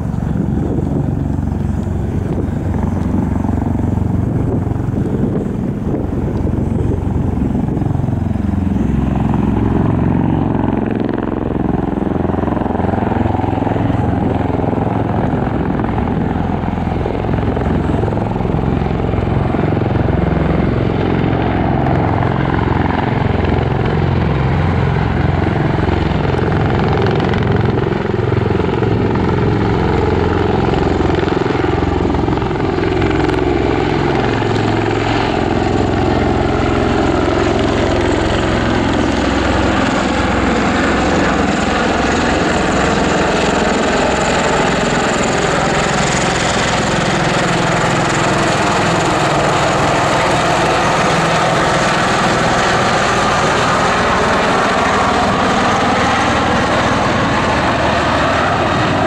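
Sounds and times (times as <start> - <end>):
turboshaft engines humming: 0.0 - 59.0.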